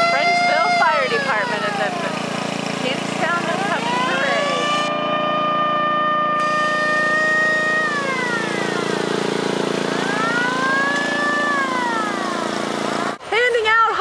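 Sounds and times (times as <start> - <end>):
siren wailing: 0.0 - 2.3, 3.2 - 13.2
small engine running: 0.0 - 13.4.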